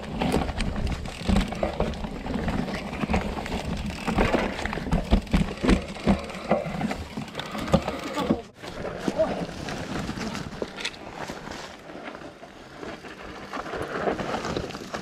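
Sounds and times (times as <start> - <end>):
bike tyres crunching over stones: 0.0 - 15.0
bikes knocking and rattling: 0.0 - 15.0.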